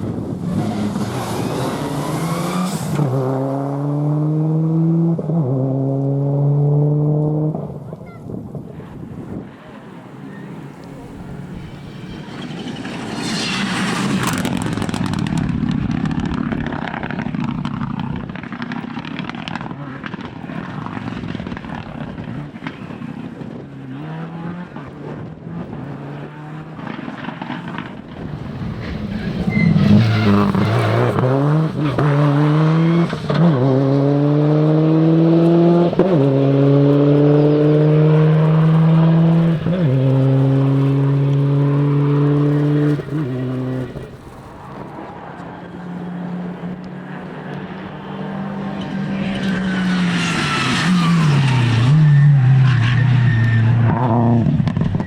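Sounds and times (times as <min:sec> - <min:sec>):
car engine accelerating hard: 0:00.0 - 0:07.8, 0:10.4 - 0:55.0
rally car passing at full throttle: 0:00.0 - 0:55.0.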